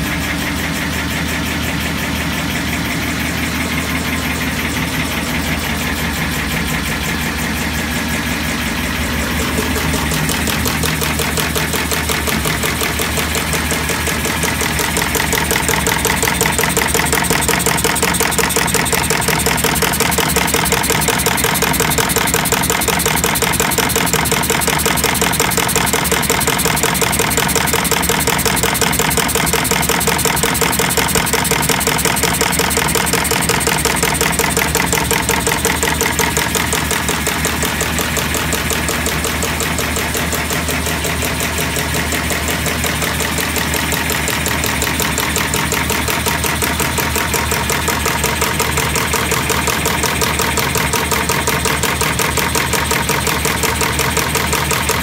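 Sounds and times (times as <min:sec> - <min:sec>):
chain-making machine strokes: 0:08.9 - 0:55.0.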